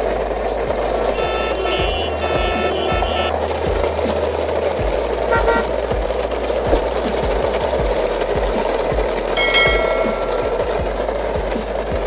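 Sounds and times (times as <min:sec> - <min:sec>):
toy truck wheels crunching on gravel: 0:00.0 - 0:12.0.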